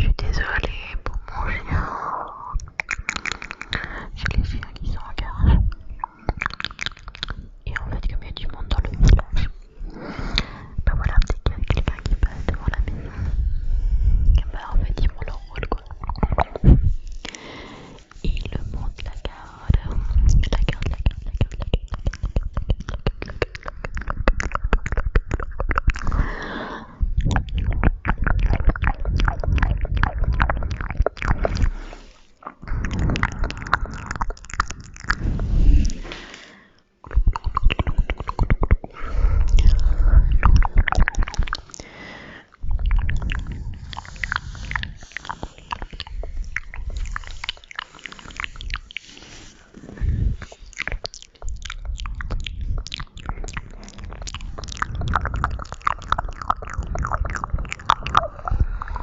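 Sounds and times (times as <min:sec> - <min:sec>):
wet mouth clicks and lip smacks: 0:00.0 - 0:59.0.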